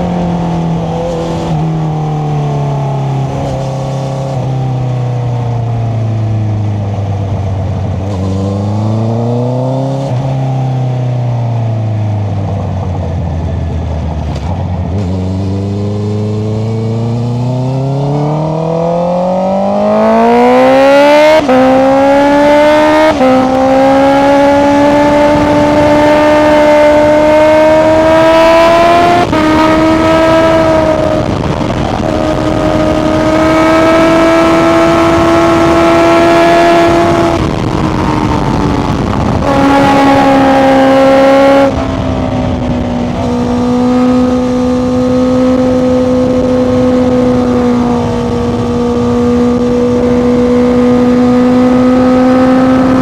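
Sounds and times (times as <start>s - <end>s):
motorcycle engine braking and accelerating: 0.0s - 53.0s.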